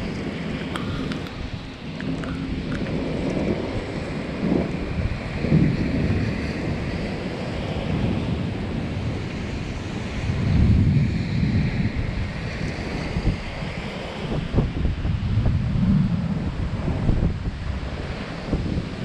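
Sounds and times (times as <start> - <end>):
gusty wind on microphone: 0.0 - 19.0.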